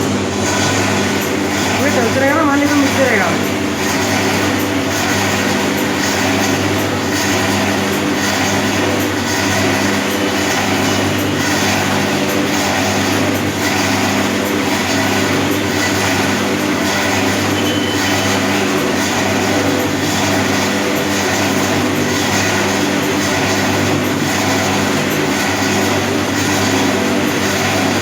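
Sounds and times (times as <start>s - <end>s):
mixer grinder running: 0.0s - 28.0s.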